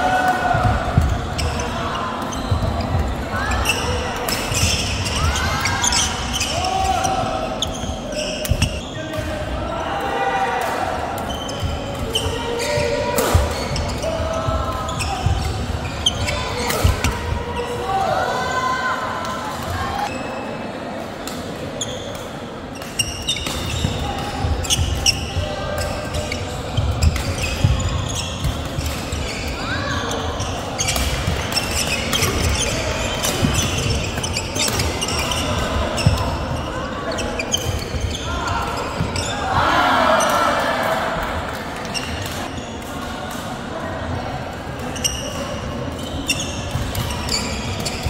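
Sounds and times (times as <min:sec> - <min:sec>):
shoes squeaking on court floor: 0:00.4 - 0:09.4, 0:11.2 - 0:17.9, 0:21.7 - 0:40.5, 0:41.8 - 0:42.8, 0:44.1 - 0:48.0.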